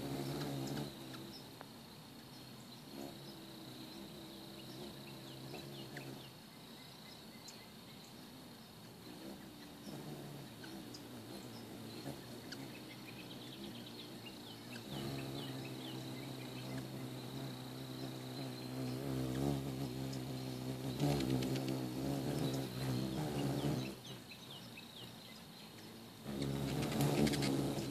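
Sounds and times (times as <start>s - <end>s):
hummingbird wings humming: 0.0s - 27.9s
steady high insect tone: 0.0s - 27.9s.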